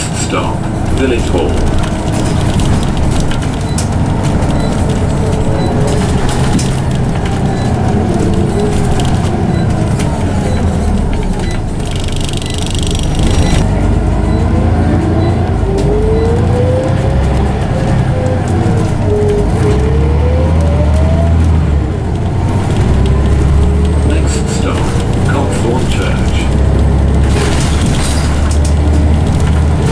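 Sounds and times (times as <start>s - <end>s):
bus gearbox whine: 0.0s - 29.9s
low engine rumble: 0.0s - 29.9s.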